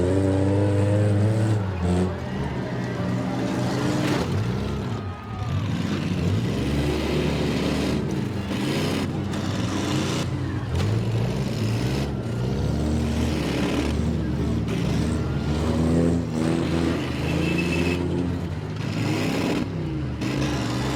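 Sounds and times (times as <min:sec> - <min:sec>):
car engines revving: 0:00.0 - 0:20.9.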